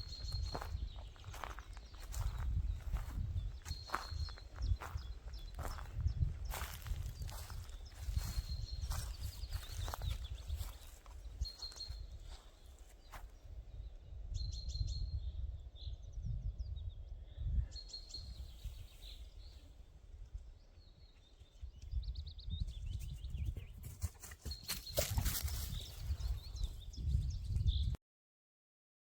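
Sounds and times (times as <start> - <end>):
gusting wind rumble: 0.0 - 12.4, 13.5 - 20.6, 21.3 - 24.1, 25.2 - 28.0
songbirds singing: 0.0 - 28.0.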